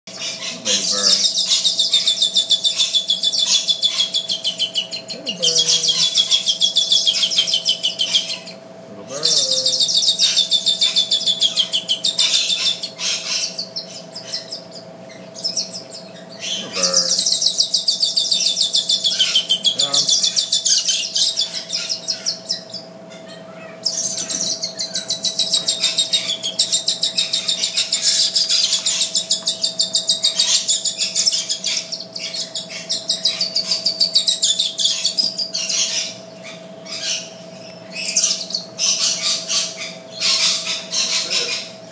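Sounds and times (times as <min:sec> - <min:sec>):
hatchlings chirping high-pitched: 0:00.1 - 0:41.9.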